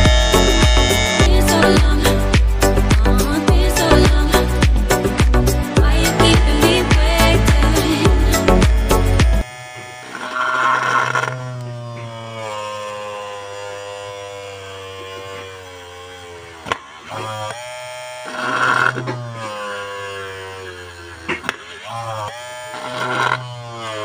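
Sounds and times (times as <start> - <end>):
small electric drill whining: 0.0 - 2.8, 5.6 - 24.0
drill bit rasping: 0.0 - 24.0.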